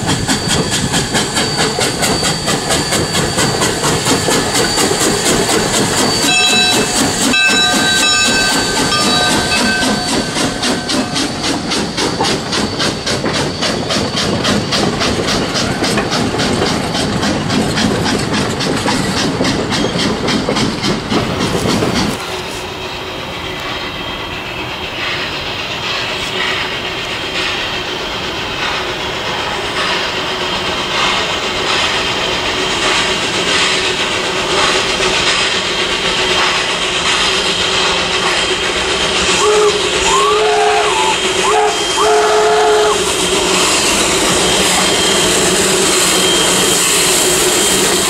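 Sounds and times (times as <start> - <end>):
railway cars rolling past: 0.0 - 48.0
steam locomotive exhaust beats: 0.0 - 48.0.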